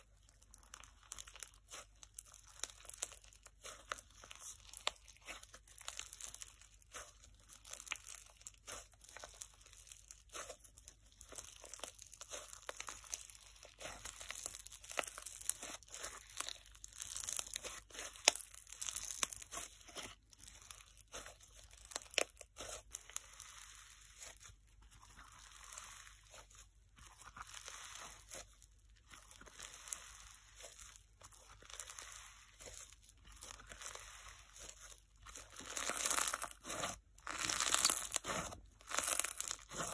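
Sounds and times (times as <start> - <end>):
slime crackling and fizzing: 0.0 - 39.9.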